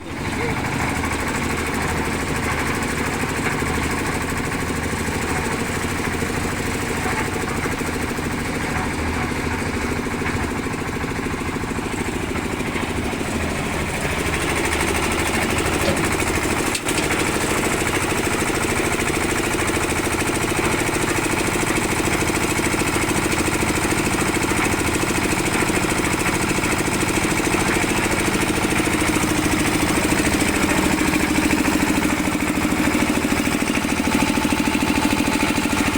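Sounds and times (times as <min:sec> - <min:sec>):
concrete mixer engine chugging: 0:00.0 - 0:35.9.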